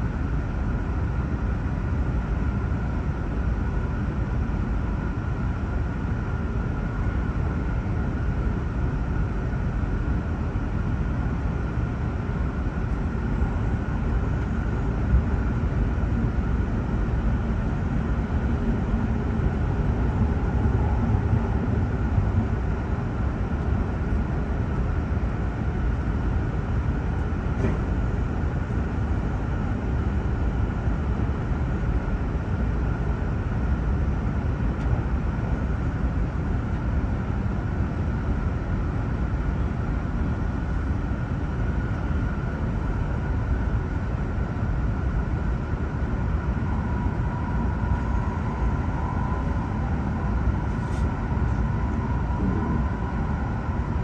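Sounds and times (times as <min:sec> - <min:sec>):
train running noise in cabin: 0:00.0 - 0:54.0.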